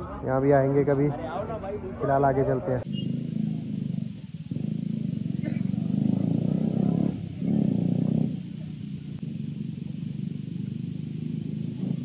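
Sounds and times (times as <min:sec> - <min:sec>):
motorcycle engine running: 0:02.3 - 0:12.0.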